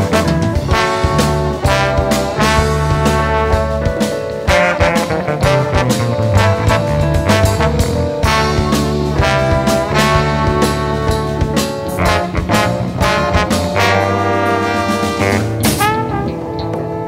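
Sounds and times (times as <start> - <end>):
drums: 0.0 - 17.0
electric bass line: 0.0 - 17.0
horn lines: 0.0 - 17.0
live jazz band playing: 0.0 - 17.0.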